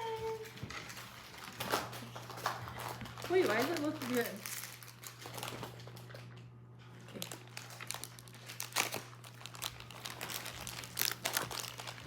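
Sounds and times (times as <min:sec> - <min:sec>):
plastic packets crinkling: 0:00.0 - 0:12.0.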